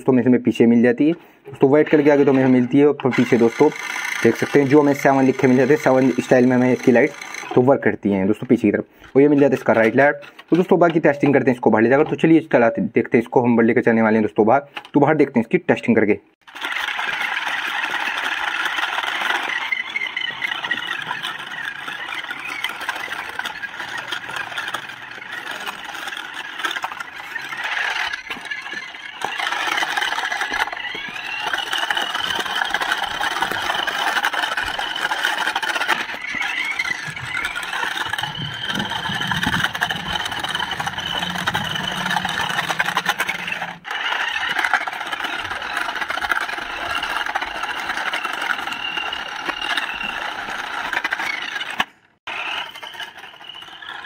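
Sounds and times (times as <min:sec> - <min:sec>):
toy car electric motor whirring: 0:01.7 - 0:10.6, 0:16.4 - 0:54.0.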